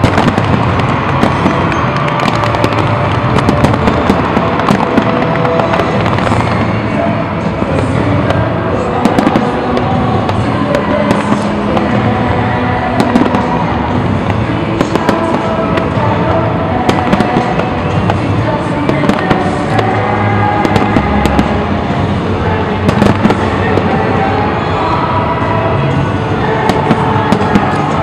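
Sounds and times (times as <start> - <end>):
sharp crackling cracks: 0.0 - 25.0, 26.4 - 28.0
fireworks bursts: 0.0 - 28.0.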